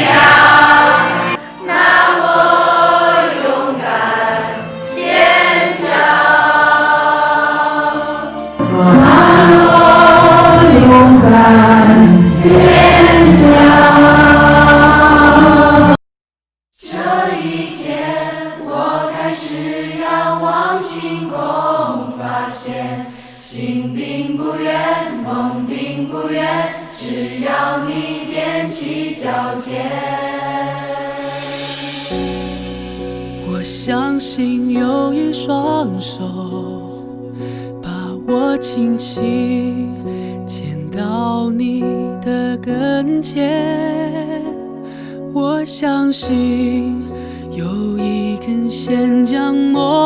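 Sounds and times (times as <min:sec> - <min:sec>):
choir singing with music: 0:00.0 - 0:16.0, 0:16.8 - 0:50.0.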